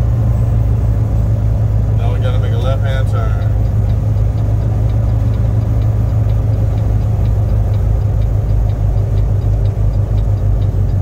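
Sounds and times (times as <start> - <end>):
diesel truck engine running: 0.0 - 11.0
faint light ticking: 0.2 - 11.0.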